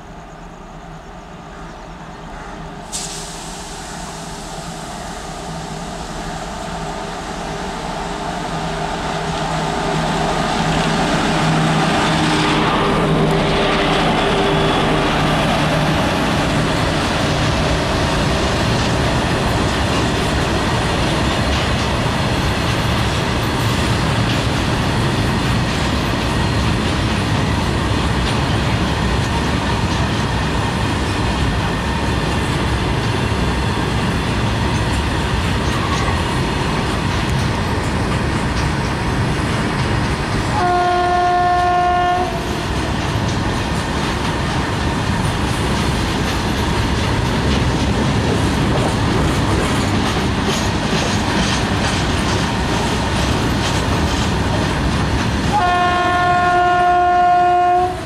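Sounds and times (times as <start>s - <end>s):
electric locomotive humming past: 0.0s - 58.0s.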